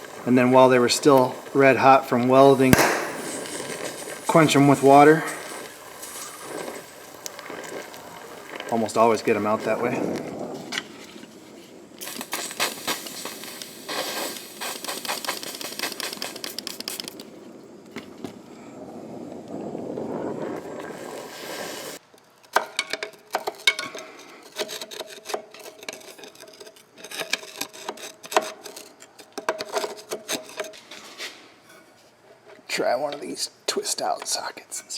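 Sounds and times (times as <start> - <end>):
rapid crackling and scraping: 0.0 - 22.0, 23.1 - 33.4.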